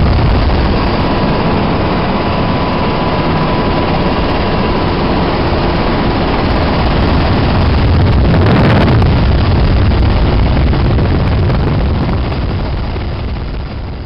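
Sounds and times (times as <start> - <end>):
helicopter turbine and rotor drone: 0.0 - 14.0
wind buffeting microphone: 0.0 - 14.0.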